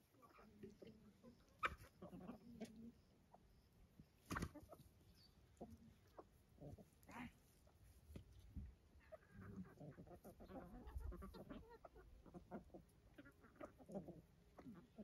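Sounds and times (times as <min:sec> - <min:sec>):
chickens clucking faintly: 0:00.0 - 0:15.0.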